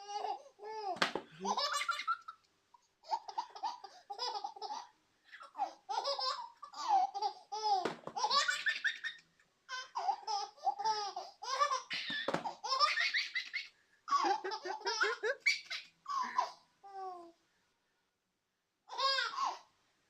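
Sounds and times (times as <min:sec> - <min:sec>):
baby laughing: 0:00.0 - 0:02.4, 0:03.0 - 0:17.1.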